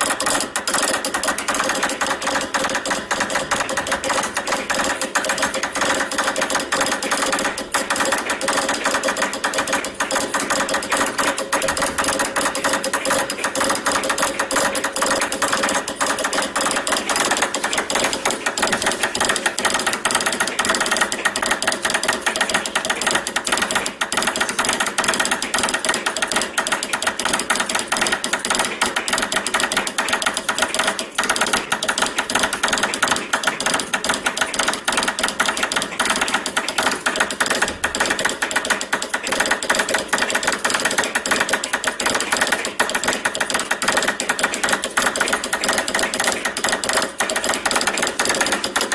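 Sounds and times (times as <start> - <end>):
telegraph key clicking: 0.0 - 48.9.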